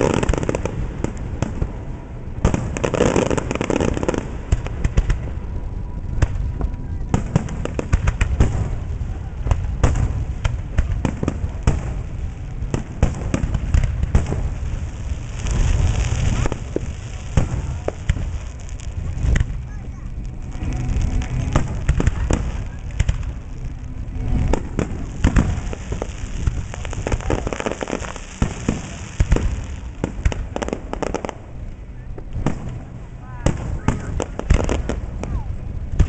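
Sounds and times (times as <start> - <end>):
fireworks crackling: 0.0 - 36.0.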